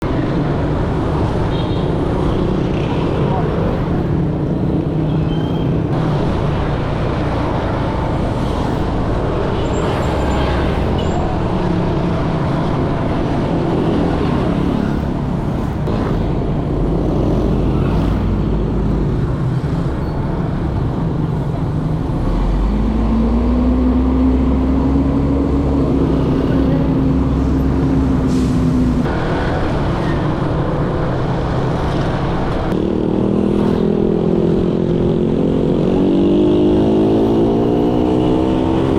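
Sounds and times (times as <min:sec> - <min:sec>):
rumble of many motorbikes: 0:00.0 - 0:38.9.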